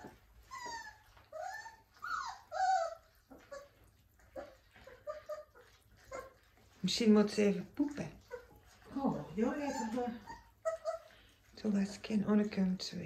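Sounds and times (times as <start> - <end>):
puppies whining: 0.0 - 6.8, 7.9 - 11.6.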